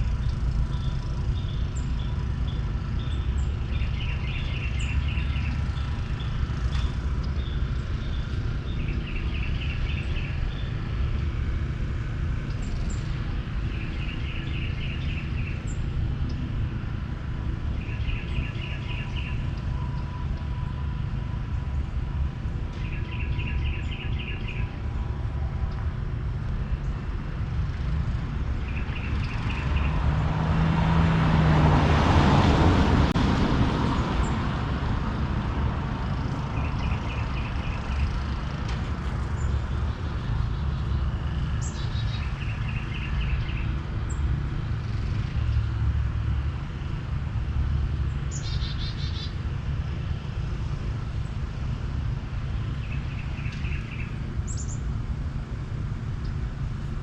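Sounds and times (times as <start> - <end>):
vehicle passing: 0.0 - 57.0.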